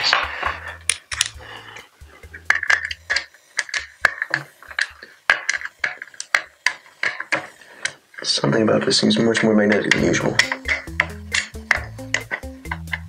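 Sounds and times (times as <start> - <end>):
plastic parts being handled: 0.0 - 13.0.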